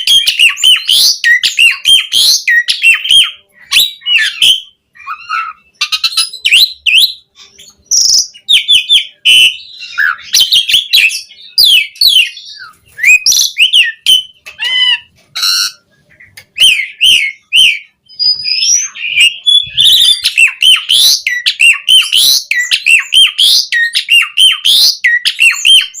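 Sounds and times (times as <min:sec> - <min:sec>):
starling singing: 0:00.0 - 0:26.0.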